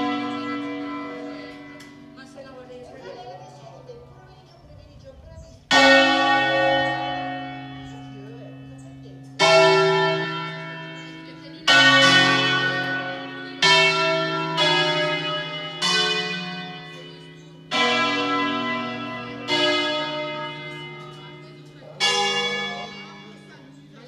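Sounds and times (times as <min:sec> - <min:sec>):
church bells clanging: 0:00.0 - 0:24.0.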